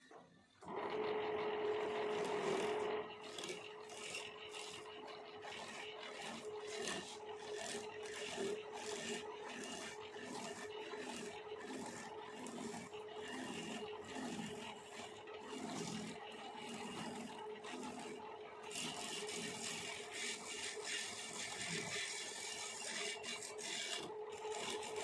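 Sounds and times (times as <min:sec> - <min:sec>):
wood lathe humming: 0:00.6 - 0:25.0
cutting tool scraping wood: 0:01.7 - 0:25.0.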